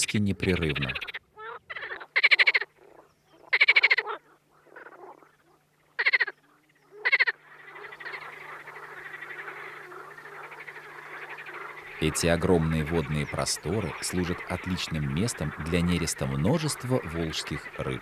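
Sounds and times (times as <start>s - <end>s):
frog chorus: 0.0s - 18.0s
frogs croaking: 0.0s - 18.0s.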